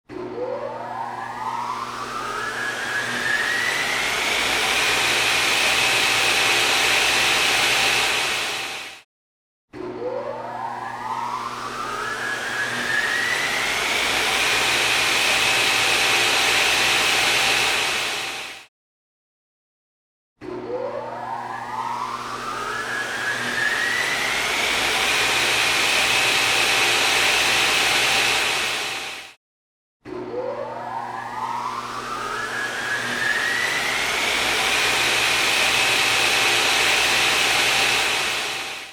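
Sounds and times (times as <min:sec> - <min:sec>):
motor whine spinning up: 0:00.1 - 0:09.0, 0:09.7 - 0:18.7, 0:20.4 - 0:29.4, 0:30.1 - 0:38.9.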